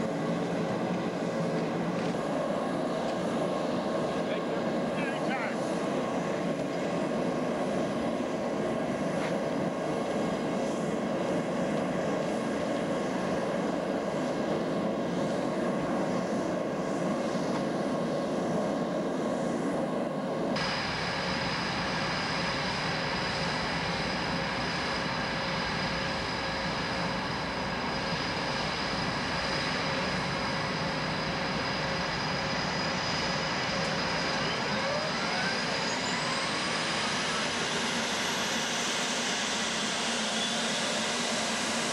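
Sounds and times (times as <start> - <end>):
jet engines rushing and whining: 0.0 - 41.9.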